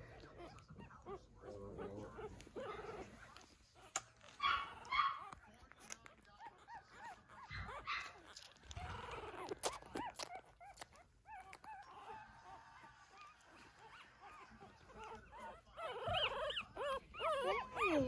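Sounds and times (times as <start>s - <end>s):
puppies squeaking and whimpering: 0.0s - 18.0s.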